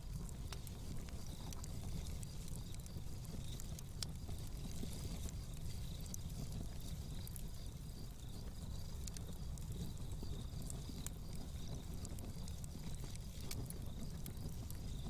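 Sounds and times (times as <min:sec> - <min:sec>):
low fire rumble: 0:00.0 - 0:15.0.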